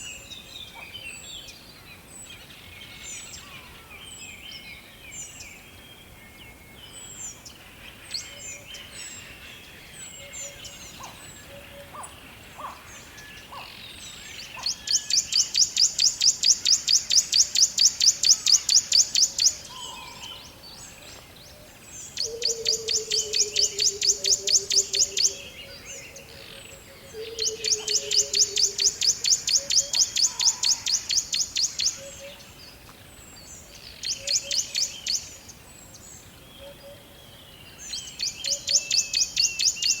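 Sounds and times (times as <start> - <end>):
forest birds chirping: 0.0 - 40.0.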